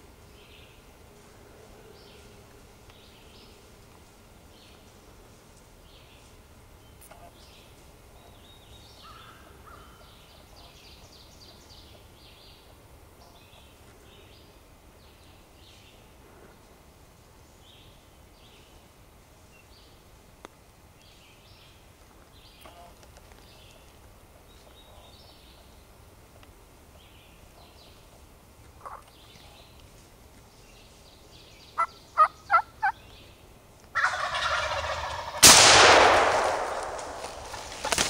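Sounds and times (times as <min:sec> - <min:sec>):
songbirds chirping and trilling: 0:00.0 - 0:38.0.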